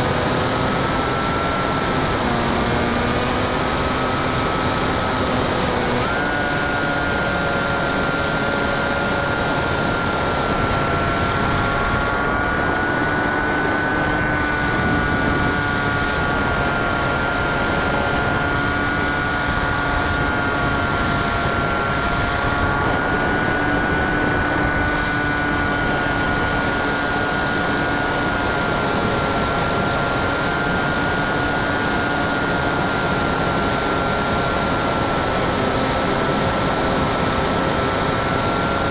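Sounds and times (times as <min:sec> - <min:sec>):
electric motor whine: 0:00.0 - 0:38.9
wind rush: 0:01.0 - 0:35.4.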